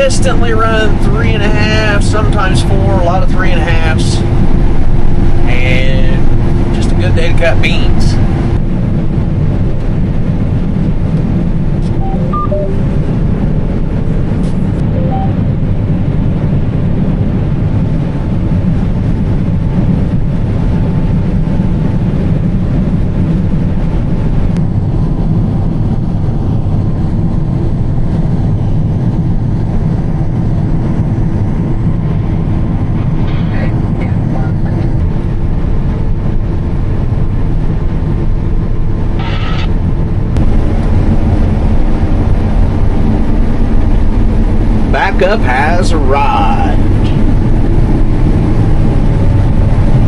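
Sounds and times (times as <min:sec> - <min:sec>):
combine harvester droning: 0:00.0 - 0:50.0.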